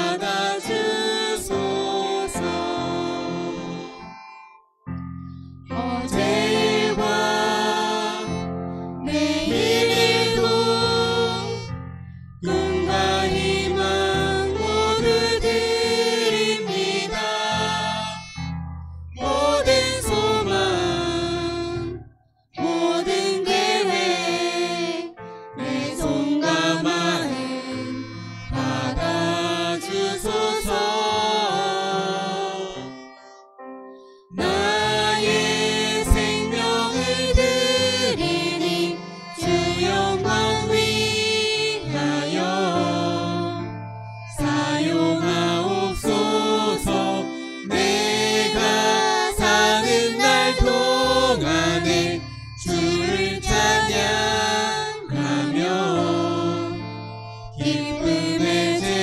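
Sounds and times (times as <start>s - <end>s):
man and woman singing: 0.0s - 3.8s, 5.8s - 8.4s, 9.1s - 11.6s, 12.5s - 18.2s, 19.2s - 22.0s, 22.6s - 32.9s, 34.4s - 43.7s, 44.4s - 56.8s, 57.6s - 59.0s
violin: 0.0s - 4.6s, 5.2s - 59.0s
keyboard: 0.0s - 59.0s.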